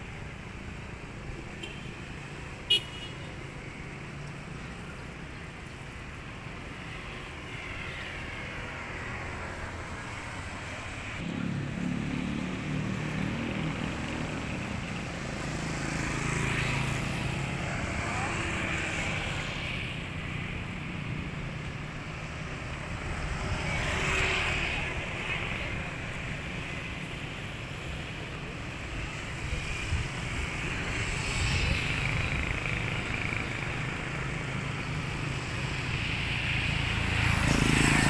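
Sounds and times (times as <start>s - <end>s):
motorcycles passing: 0.0s - 38.0s
vehicles whooshing past: 3.5s - 38.0s.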